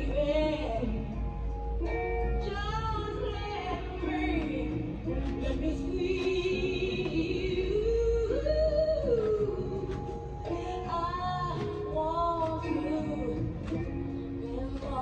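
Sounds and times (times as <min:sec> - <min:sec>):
song with vocals and guitar: 0:00.0 - 0:15.0.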